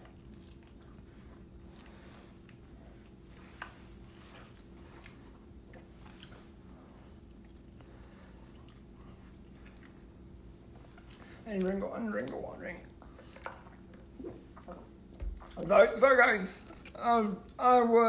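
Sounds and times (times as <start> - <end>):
person chewing food: 0.0 - 15.6
low steady hum: 0.0 - 18.0.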